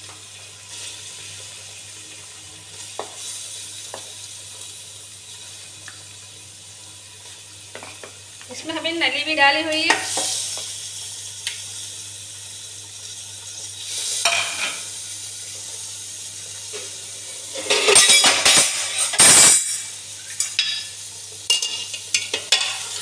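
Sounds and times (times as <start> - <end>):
oil sizzling in a pot: 0.0 - 23.0.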